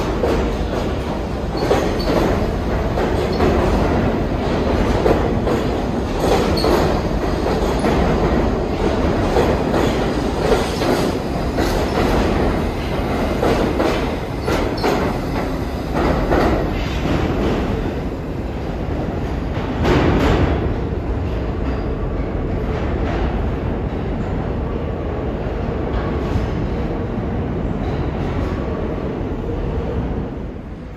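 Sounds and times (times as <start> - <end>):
subway train wheels clattering: 0.0 - 30.9.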